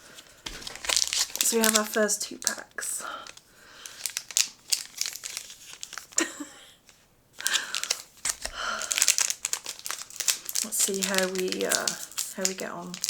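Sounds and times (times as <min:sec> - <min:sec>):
foil wrappers crinkling: 0:00.0 - 0:13.0.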